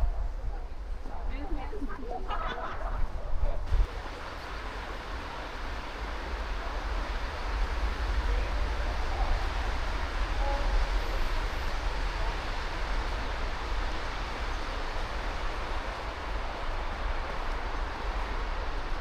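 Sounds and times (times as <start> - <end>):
street hiss: 2.3 - 19.0.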